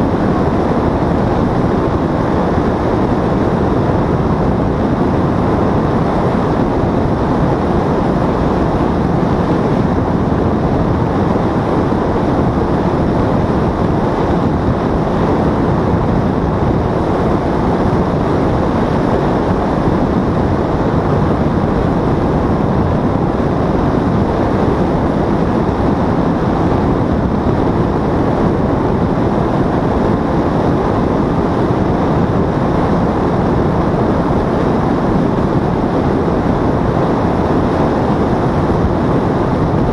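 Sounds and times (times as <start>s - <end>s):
paramotor engine and propeller: 0.0s - 39.9s
wind rushing over microphone: 0.0s - 39.9s.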